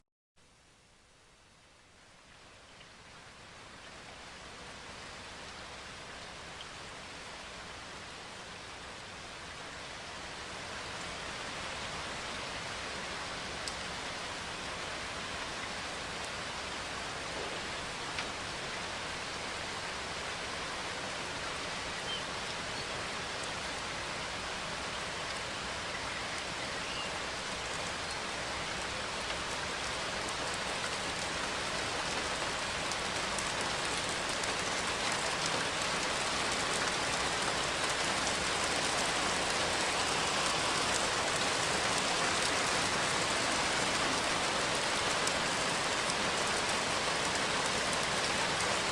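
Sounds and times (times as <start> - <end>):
steady rain falling: 0.4 - 48.9.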